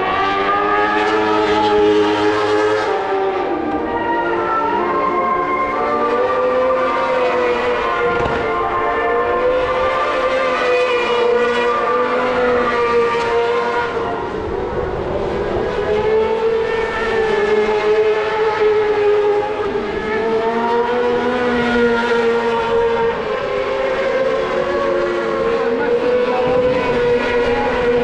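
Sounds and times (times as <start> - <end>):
racing motorcycle engines revving: 0.0 - 28.0.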